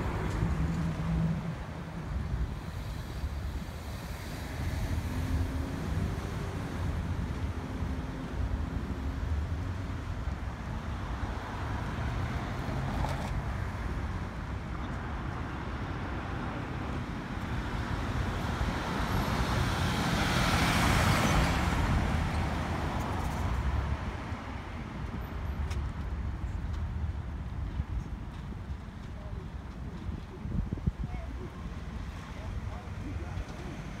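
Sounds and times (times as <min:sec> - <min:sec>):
low traffic rumble: 0:00.0 - 0:34.0.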